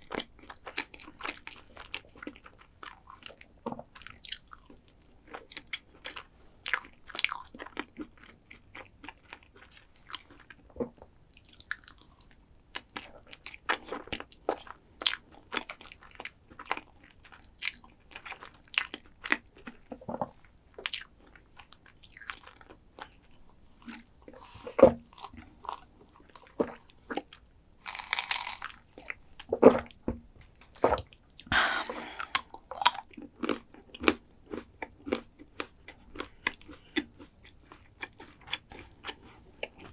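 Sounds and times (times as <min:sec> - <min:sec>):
chewing crunchy chocolate dessert: 0:00.0 - 0:39.9.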